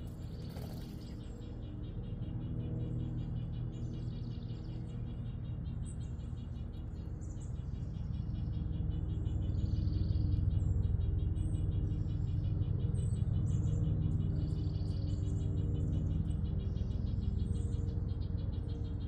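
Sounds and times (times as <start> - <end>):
low hum: 0.0 - 19.0
small birds chirping: 0.0 - 19.0.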